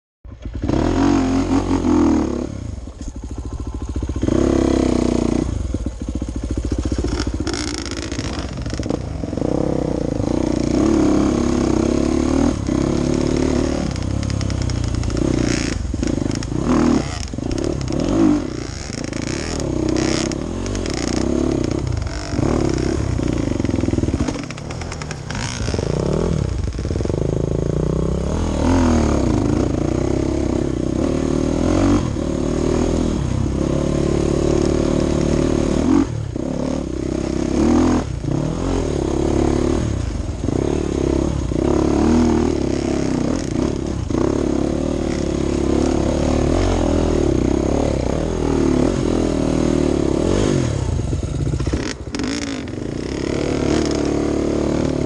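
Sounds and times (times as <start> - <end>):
dirt bike engine revving: 0.3 - 55.0.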